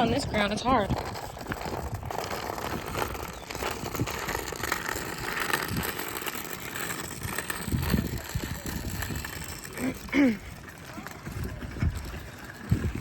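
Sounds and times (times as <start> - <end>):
cart wheels rattling over ground: 0.0 - 13.0.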